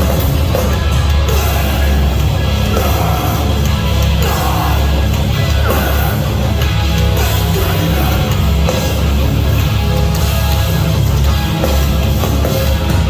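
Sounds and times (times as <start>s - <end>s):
bass guitar: 0.0s - 13.0s
distorted electric guitars: 0.0s - 13.0s
rock drums: 0.0s - 13.0s.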